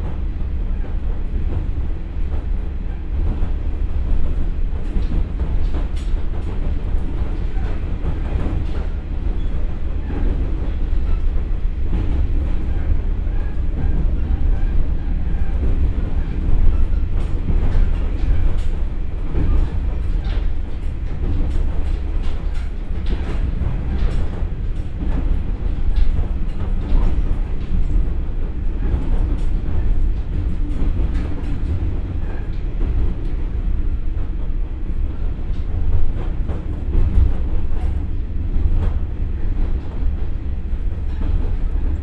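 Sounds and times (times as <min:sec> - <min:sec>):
railcar engine and wheels rumbling: 0:00.0 - 0:42.0.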